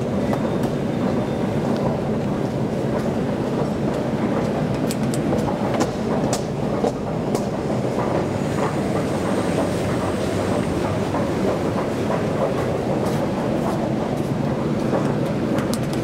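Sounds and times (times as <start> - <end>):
elevator car rumbling on track: 0.0 - 16.0.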